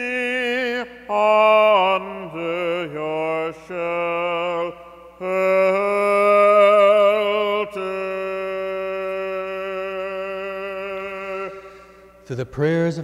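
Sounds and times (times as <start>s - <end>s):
man chanting a hymn: 0.0s - 13.0s.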